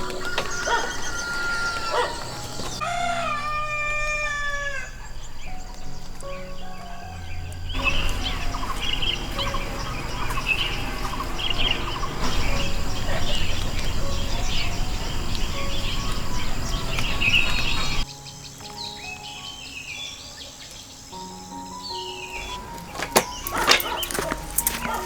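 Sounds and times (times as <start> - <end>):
birds chirping: 0.0 - 25.0
steady background hiss: 0.0 - 25.0.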